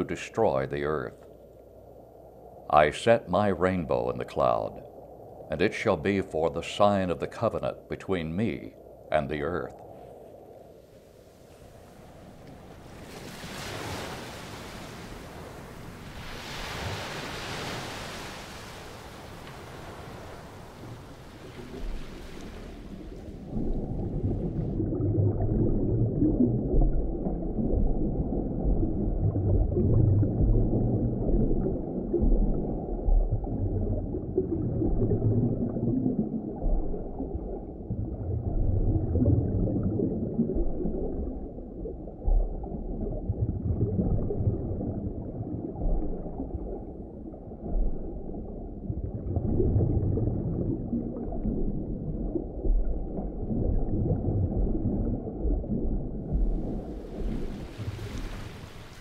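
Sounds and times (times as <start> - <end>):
deep underwater rumbling: 8.4 - 59.0.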